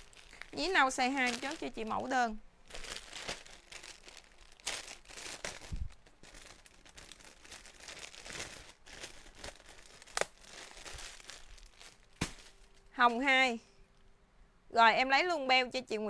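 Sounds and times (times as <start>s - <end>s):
plastic wrapping crinkling: 0.0s - 13.2s.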